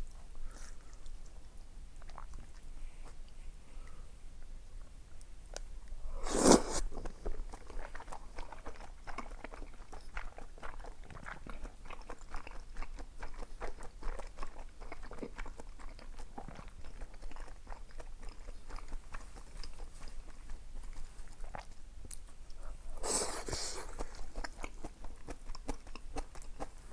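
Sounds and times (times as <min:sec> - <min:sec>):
wet chewing: 0:02.0 - 0:03.3, 0:06.3 - 0:26.9.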